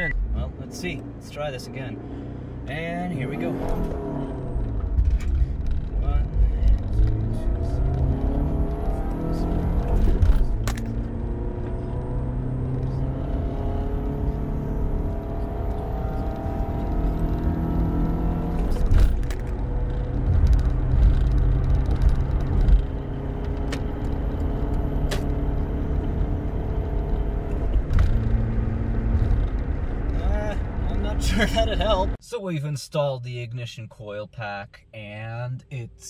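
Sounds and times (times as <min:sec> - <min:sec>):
car engine accelerating: 0:00.0 - 0:32.2
road rumble: 0:00.0 - 0:36.0.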